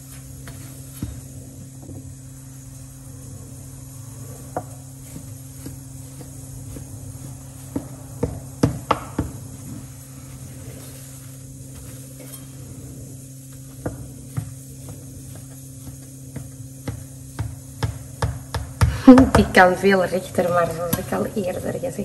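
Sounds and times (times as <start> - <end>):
low hum: 0.0 - 18.2.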